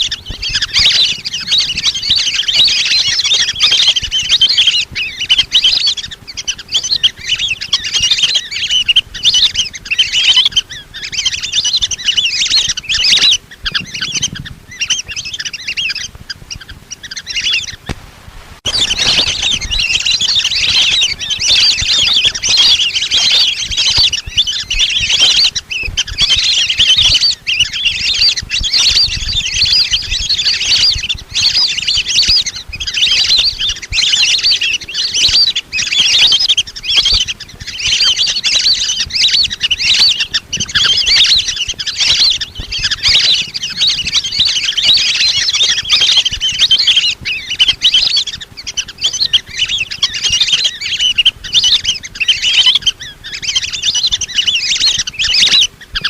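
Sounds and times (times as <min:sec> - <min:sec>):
ducks whistling calls: 0:00.0 - 0:18.0, 0:18.6 - 0:56.0.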